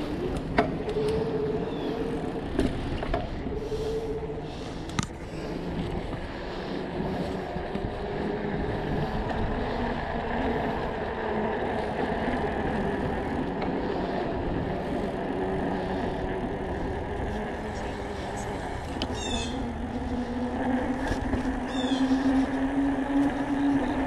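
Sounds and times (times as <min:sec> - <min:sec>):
bike tyre rumble: 0:00.0 - 0:24.0.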